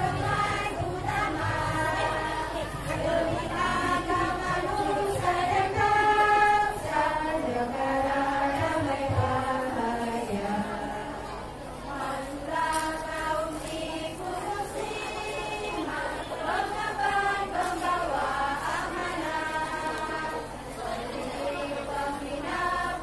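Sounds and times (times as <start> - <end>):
women's choir singing: 0.0 - 23.0.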